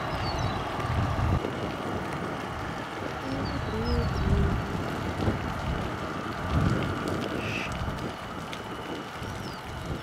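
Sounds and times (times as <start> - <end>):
low rumble: 0.0 - 10.0
wind buffeting microphone: 0.0 - 10.0.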